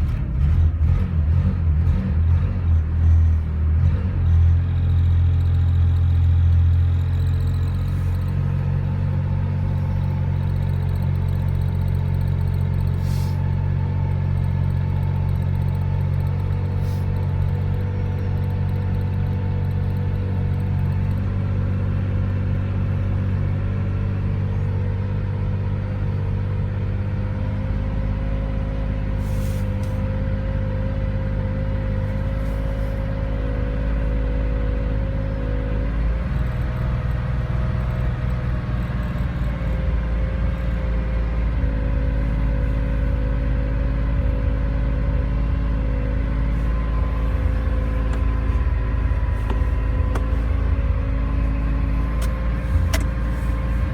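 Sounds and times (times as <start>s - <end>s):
air-cooled car engine running: 2.8s - 53.9s.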